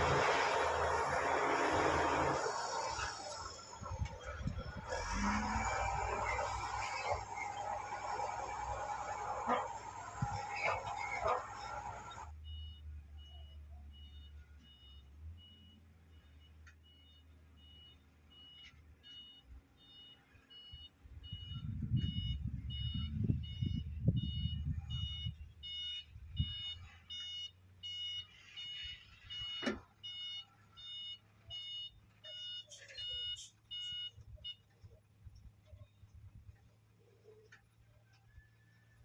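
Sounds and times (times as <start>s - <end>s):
reversing alarm beeping: 0.0s - 34.8s.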